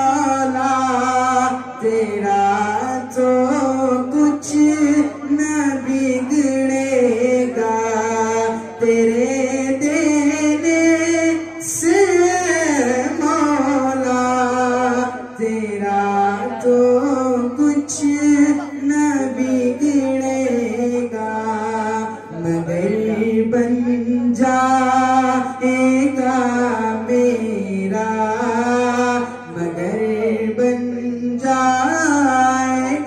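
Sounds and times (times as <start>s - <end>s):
man singing into a microphone: 0.0s - 33.0s.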